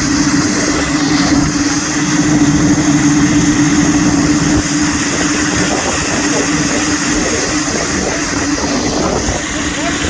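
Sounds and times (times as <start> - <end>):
tractor engine running loud: 0.0 - 10.0.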